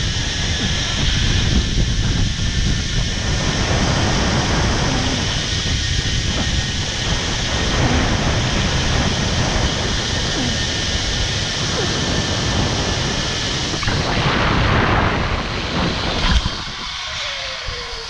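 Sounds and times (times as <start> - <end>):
wind buffeting microphone: 0.0 - 18.0
zip-line trolley rushing on cable: 0.0 - 18.0.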